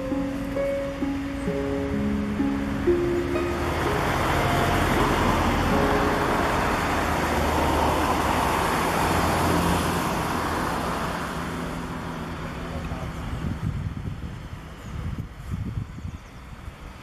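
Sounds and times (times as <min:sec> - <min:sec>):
road traffic rushing: 0:00.0 - 0:17.0.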